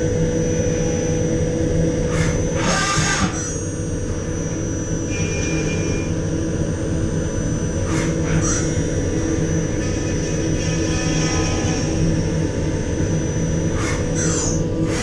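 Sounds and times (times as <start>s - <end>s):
milling machine hum and whine: 0.0s - 15.0s.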